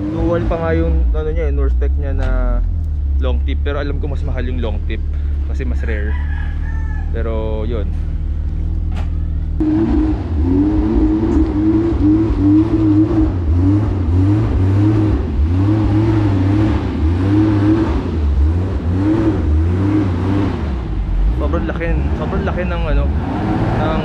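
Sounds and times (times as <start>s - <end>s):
car engine revving: 0.0s - 6.1s, 7.2s - 24.0s.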